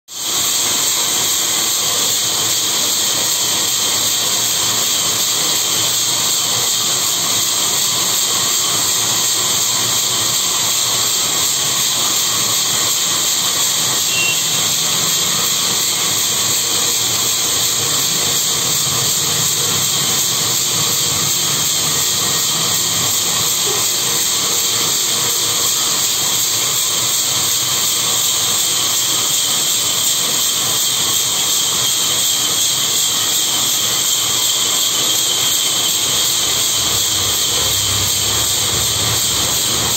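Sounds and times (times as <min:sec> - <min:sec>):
band saw running hiss: 0:00.1 - 0:39.9.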